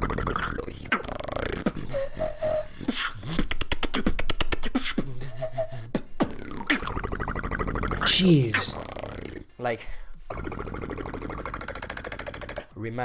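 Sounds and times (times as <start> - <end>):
fast tongue clicks: 0.0 - 5.2, 6.2 - 9.4, 10.3 - 12.8
beatboxing: 0.0 - 9.6, 10.3 - 12.8.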